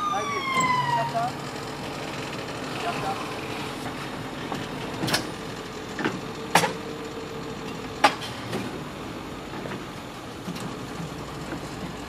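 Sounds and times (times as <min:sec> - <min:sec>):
tow truck engine running: 0:00.0 - 0:12.0.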